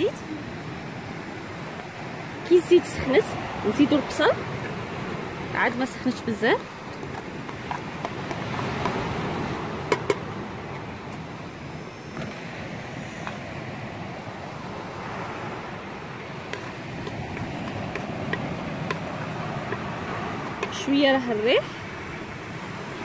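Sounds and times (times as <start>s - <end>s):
sea surf: 0.0s - 23.0s
wind: 0.0s - 23.0s.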